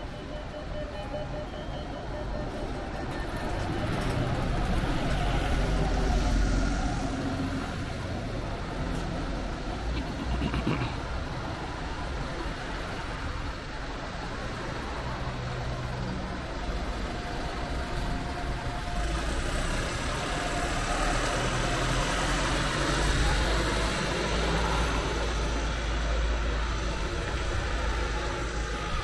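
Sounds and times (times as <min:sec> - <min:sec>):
bus engine idling: 0:00.0 - 0:29.0
street traffic: 0:00.0 - 0:29.0.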